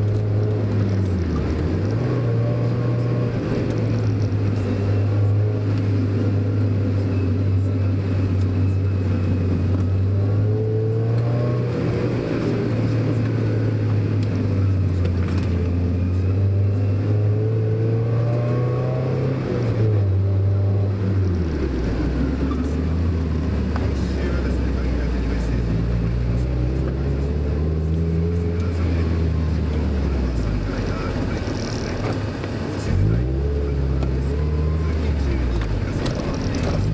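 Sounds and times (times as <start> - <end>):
car engine running: 0.0 - 36.9
tyre and road noise: 0.0 - 36.9.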